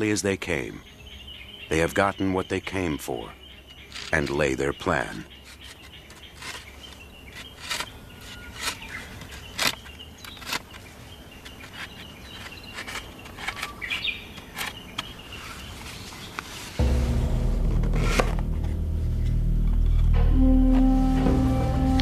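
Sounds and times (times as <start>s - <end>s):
birds chirping: 0.0s - 17.6s.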